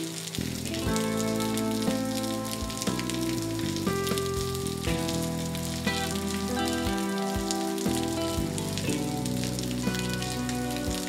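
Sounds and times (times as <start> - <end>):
soft instrumental music: 0.0 - 11.0
steady rain patter: 0.0 - 11.0.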